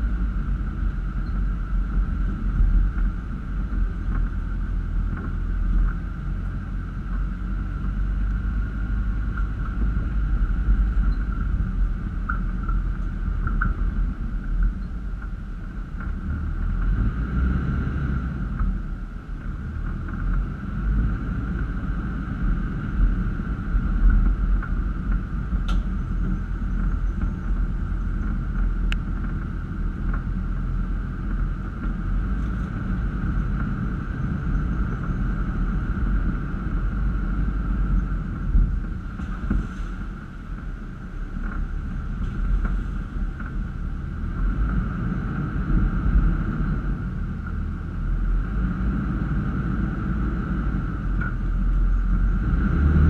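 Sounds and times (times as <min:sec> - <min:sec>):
truck engine rumbling at low speed: 0:00.0 - 0:53.0.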